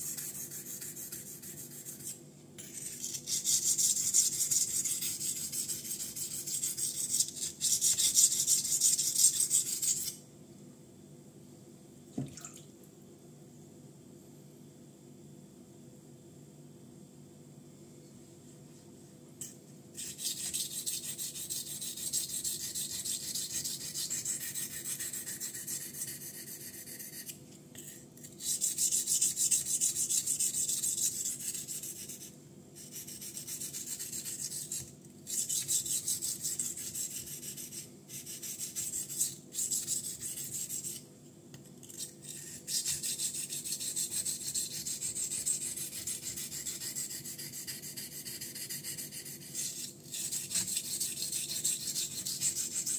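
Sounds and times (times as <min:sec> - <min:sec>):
knife scraping on whetstone: 0:00.0 - 0:10.2, 0:19.4 - 0:41.0, 0:41.8 - 0:52.9.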